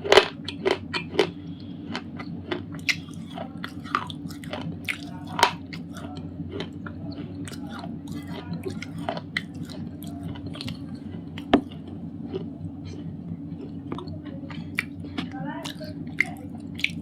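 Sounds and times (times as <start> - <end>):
steady low hum: 0.0 - 17.0
slate pencil being chewed: 0.1 - 17.0.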